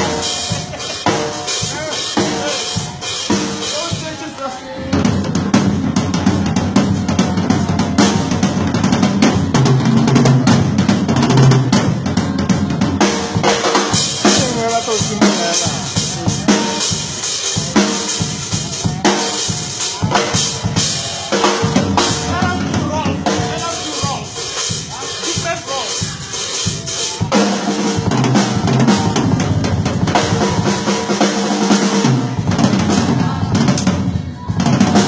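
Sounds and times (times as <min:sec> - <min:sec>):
backing music: 0:00.0 - 0:35.0
drum kit playing groove: 0:00.0 - 0:35.0.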